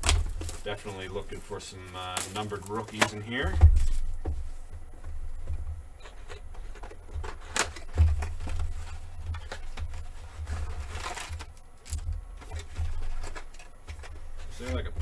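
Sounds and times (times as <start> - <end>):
paper and cardboard rustling: 0.0 - 15.0.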